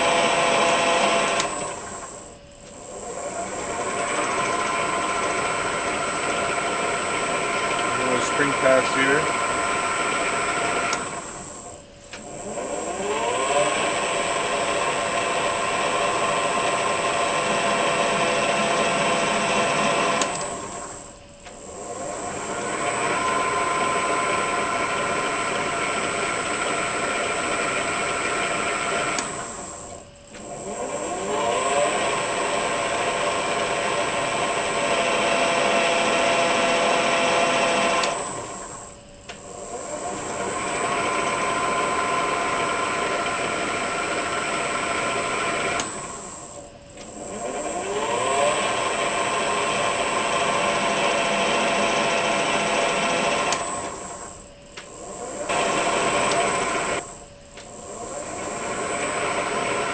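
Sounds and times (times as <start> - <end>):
lathe motor whining: 0.0 - 59.9.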